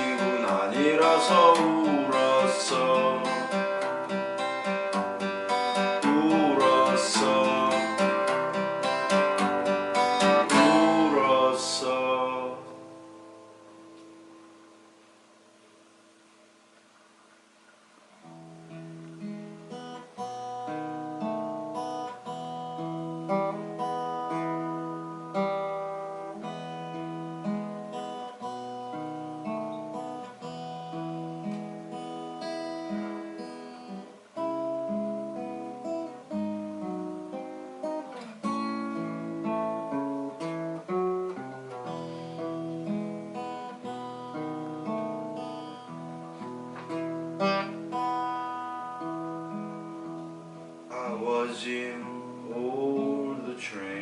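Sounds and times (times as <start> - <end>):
acoustic guitar picking and strumming: 0.0 - 15.4, 16.7 - 54.0.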